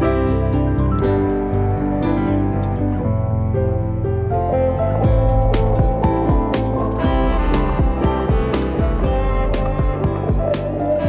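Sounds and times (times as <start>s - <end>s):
gentle guitar and strings music: 0.0s - 11.0s.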